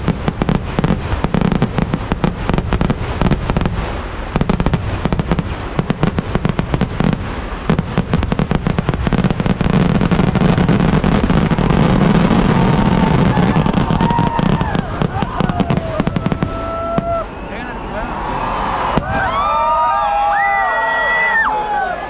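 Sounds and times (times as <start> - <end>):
fireworks bangs: 0.0 - 21.4.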